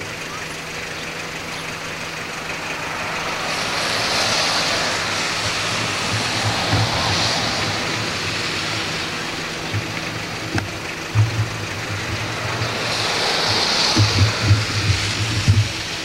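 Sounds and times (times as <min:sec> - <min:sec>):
vehicle tyre hiss passing: 0:00.0 - 0:16.0.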